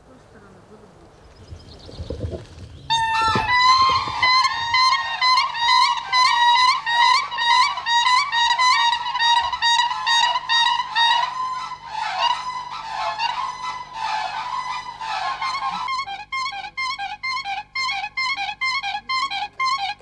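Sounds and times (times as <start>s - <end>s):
cranes whooping calls: 1.1s - 20.0s.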